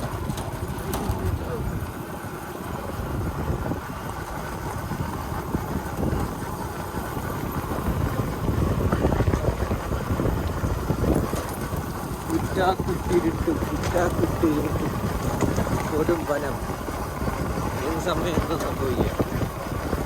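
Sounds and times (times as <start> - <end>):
motorcycle engine rumbling: 0.0 - 20.0
wind noise on microphone: 0.0 - 20.0.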